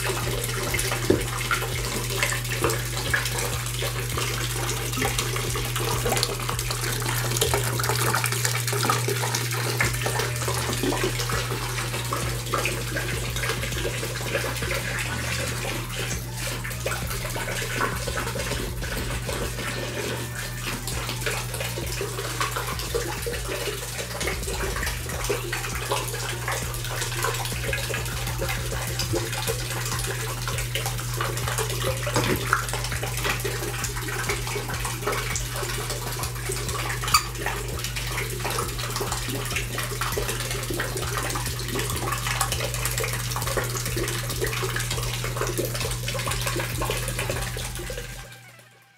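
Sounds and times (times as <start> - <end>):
water jet splashing into tub: 0.0 - 48.6
low hum: 0.0 - 48.7.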